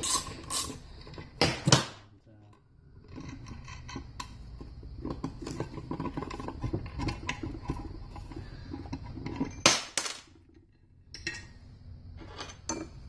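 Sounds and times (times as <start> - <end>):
metal nuts and bolts clinking: 2.4 - 13.0.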